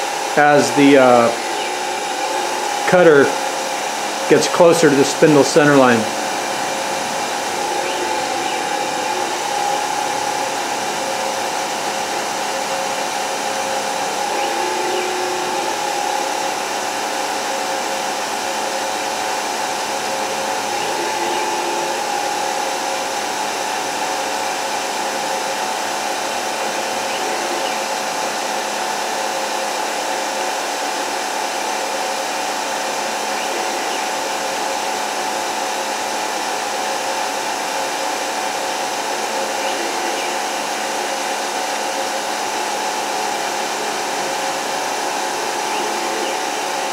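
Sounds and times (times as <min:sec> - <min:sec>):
lathe spindle motor whine: 0:00.0 - 0:46.9.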